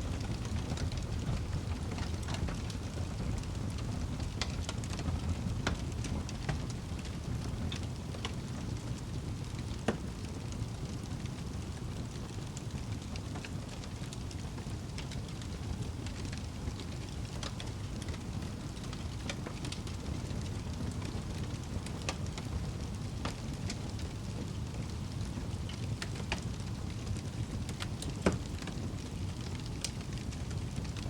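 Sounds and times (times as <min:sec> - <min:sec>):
fire crackling in fireplace: 0:00.0 - 0:31.0.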